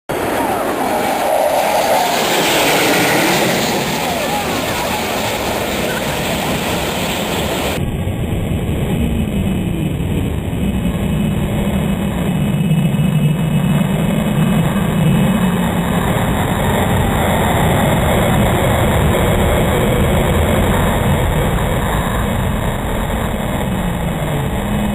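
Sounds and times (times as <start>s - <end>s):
jet aircraft passing overhead: 0.1s - 24.9s.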